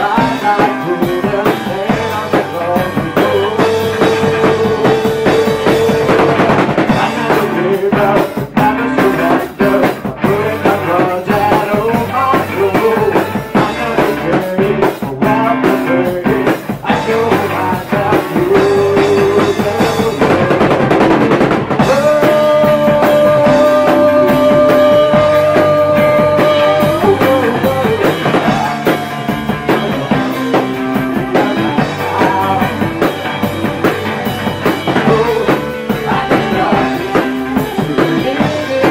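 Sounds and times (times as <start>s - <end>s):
hard rock band playing: 0.0s - 38.9s.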